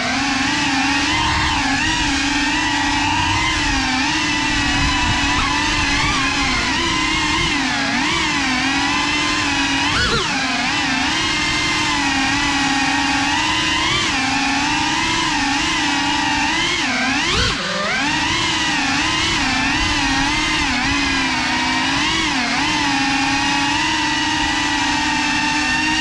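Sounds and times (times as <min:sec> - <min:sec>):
quadcopter propellers buzzing: 0:00.0 - 0:26.0.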